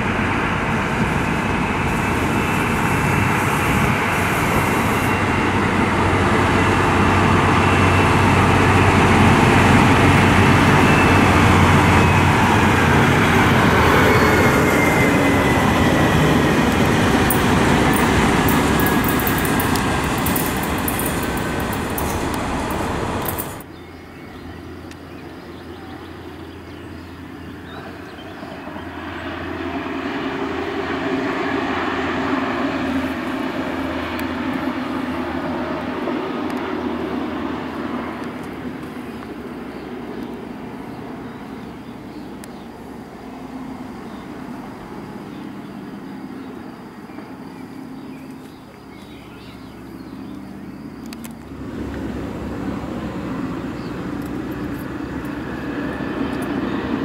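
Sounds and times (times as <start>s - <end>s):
diesel locomotive engine running: 0.0s - 57.0s
distant diesel railcar: 0.0s - 57.0s.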